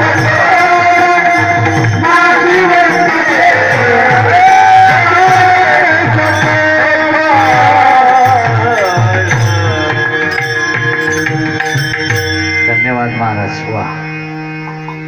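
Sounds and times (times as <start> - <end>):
hand drum beats: 0.0 - 12.9
devotional song melody: 0.0 - 15.0.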